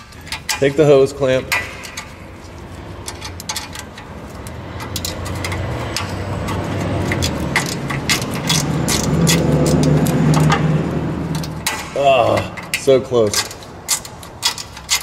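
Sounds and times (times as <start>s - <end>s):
metallic clicks of hose clamp: 0.0s - 2.2s, 3.0s - 10.6s, 11.3s - 15.0s.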